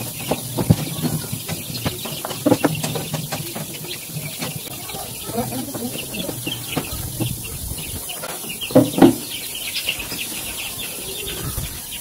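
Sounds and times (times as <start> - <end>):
chickens clucking: 0.0 - 12.0
chicks peeping: 0.0 - 12.0.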